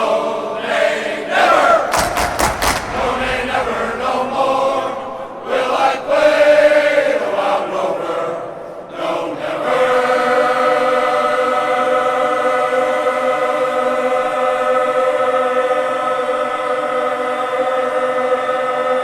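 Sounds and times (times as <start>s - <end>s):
choir holding sustained chord: 0.0s - 19.0s.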